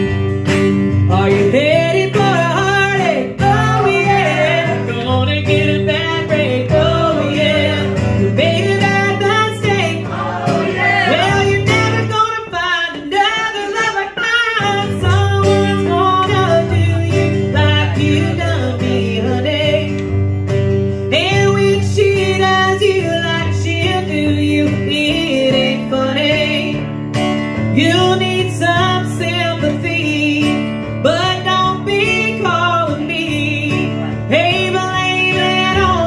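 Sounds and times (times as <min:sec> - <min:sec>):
acoustic guitar strumming: 0:00.0 - 0:36.0
woman singing: 0:00.8 - 0:20.2, 0:21.1 - 0:27.0, 0:27.6 - 0:36.0.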